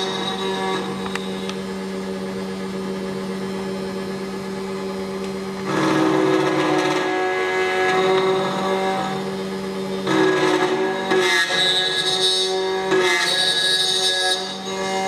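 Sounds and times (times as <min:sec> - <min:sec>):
key cutting machine running: 0:00.0 - 0:15.0.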